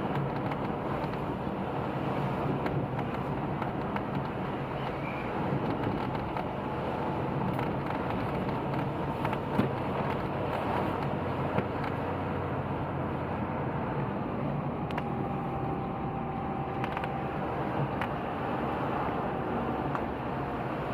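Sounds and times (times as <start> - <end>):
road and wind noise: 0.0 - 20.9.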